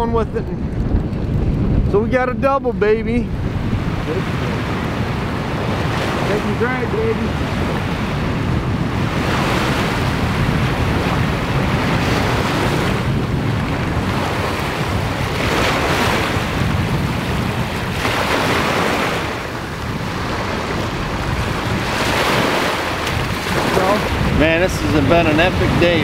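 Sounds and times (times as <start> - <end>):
wind buffeting microphone: 0.0 - 26.0
surf breaking on sand beach: 0.6 - 26.0.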